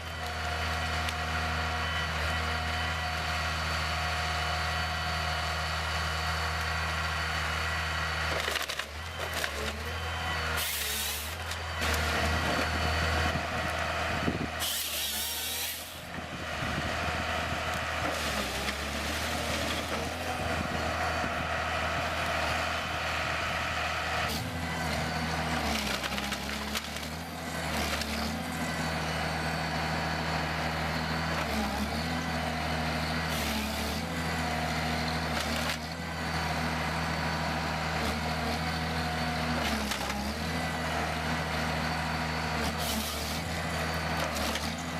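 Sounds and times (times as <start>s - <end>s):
heavy diesel machinery running: 0.0s - 44.9s.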